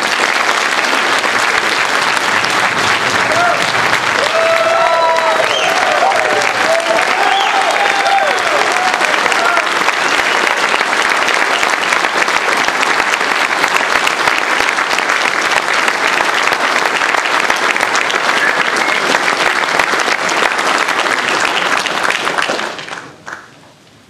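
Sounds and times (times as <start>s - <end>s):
people applauding: 0.0s - 23.6s.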